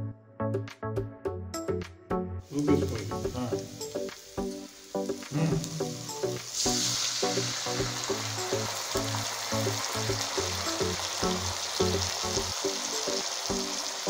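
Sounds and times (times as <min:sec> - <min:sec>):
background music with beat: 0:00.0 - 0:14.0
frying sizzle: 0:02.4 - 0:14.0.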